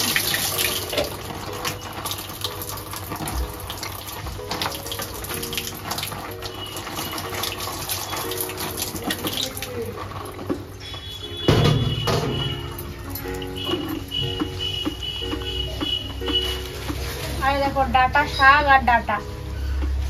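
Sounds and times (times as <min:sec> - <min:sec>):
water running from a tap: 0:00.0 - 0:18.1.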